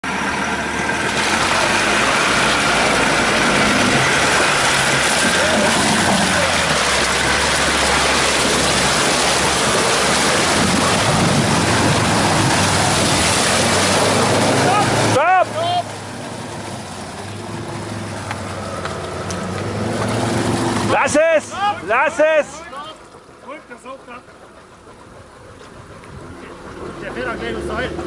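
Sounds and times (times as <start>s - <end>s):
engine running under load: 0.0s - 28.0s
tyres churning through mud and water: 0.0s - 28.0s.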